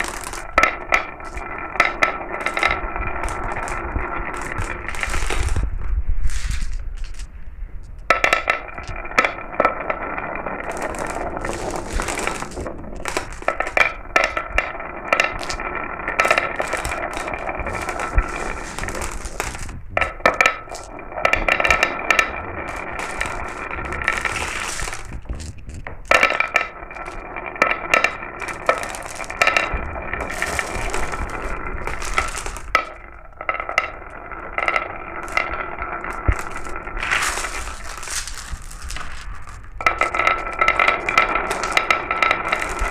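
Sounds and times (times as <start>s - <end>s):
marbles rolling down a marble run: 0.0s - 7.3s, 8.1s - 42.9s.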